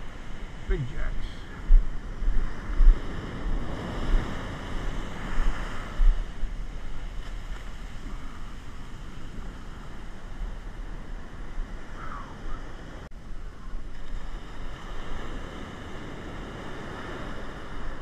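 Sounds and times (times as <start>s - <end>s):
surf breaking on beach: 0.0s - 18.0s
wind buffeting microphone: 0.0s - 18.0s.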